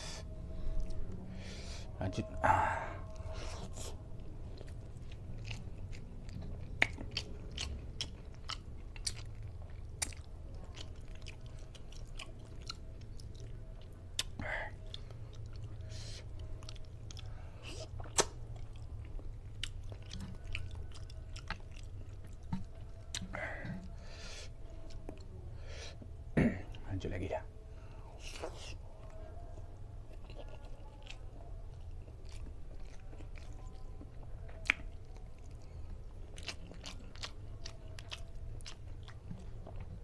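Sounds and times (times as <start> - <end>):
man chewing food: 0.0 - 26.9, 28.0 - 40.0
steady low hum: 0.0 - 40.0.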